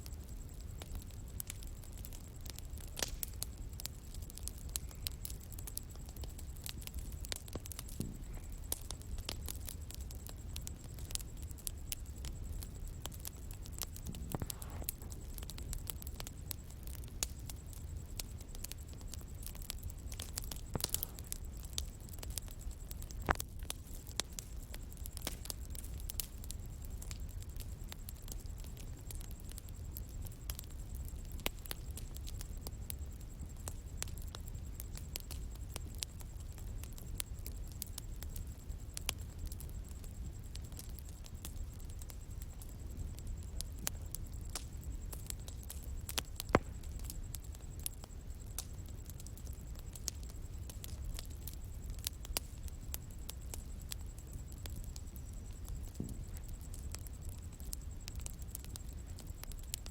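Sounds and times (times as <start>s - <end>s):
bonfire crackling: 0.0s - 59.9s.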